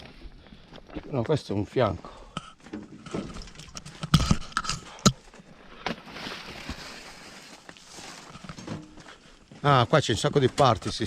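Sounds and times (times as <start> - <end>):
footsteps on rocky ground: 0.0 - 11.0.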